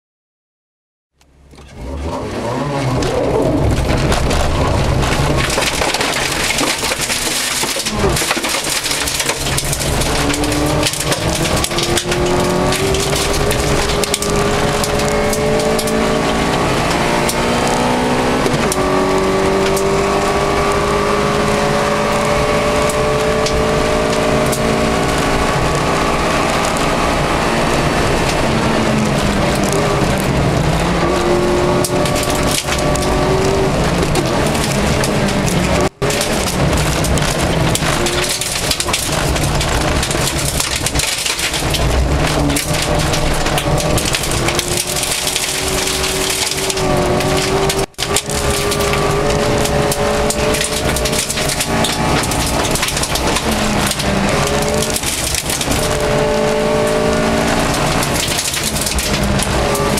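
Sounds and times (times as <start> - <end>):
car engine revving through gears: 1.2 - 59.9
gravel crunching under tyres: 1.6 - 59.9.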